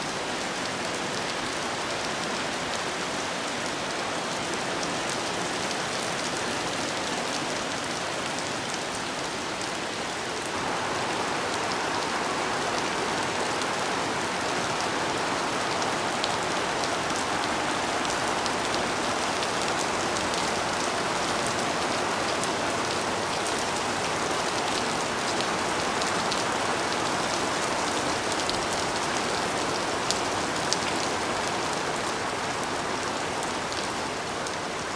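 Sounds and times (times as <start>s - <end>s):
rain pattering: 0.1s - 34.9s.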